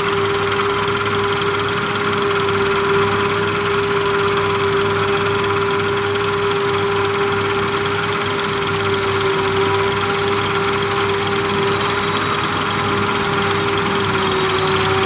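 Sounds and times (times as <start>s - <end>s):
harvester engine and machinery: 0.0s - 15.0s.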